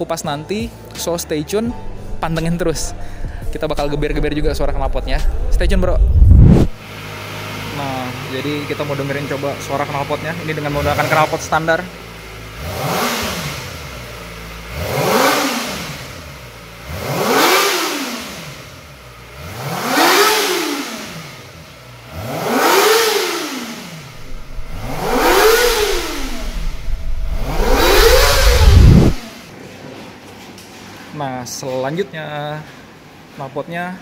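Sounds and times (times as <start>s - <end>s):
motorcycle engine revving: 1.7s - 29.5s.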